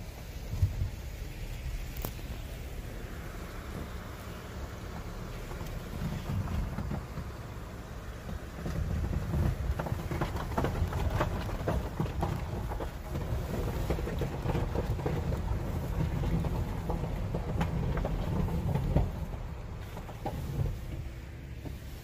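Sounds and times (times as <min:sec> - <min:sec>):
gravel crunching under tyres: 0:00.0 - 0:22.0
tyre and road rumble: 0:00.0 - 0:22.0.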